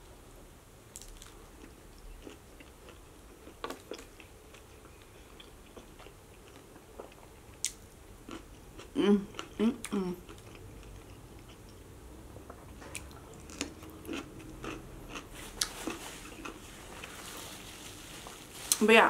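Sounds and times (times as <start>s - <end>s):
person chewing: 1.0s - 17.2s.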